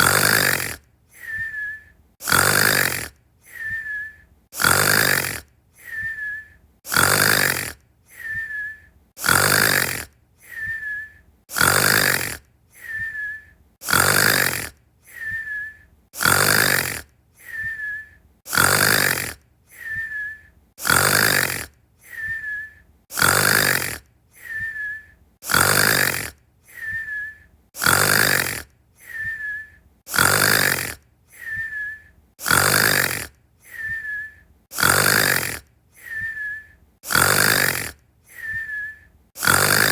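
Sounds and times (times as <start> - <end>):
person snoring: 0.0 - 1.6, 2.2 - 3.9, 4.6 - 6.2, 6.9 - 8.5, 9.2 - 10.9, 11.5 - 13.2, 13.8 - 15.6, 16.2 - 20.2, 20.8 - 24.8, 25.4 - 38.6, 39.4 - 39.9
snore whistle: 0.0 - 39.9.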